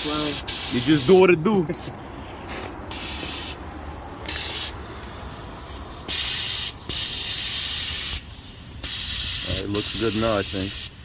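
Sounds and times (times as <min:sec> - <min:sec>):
air brakes hissing: 0:01.8 - 0:11.0.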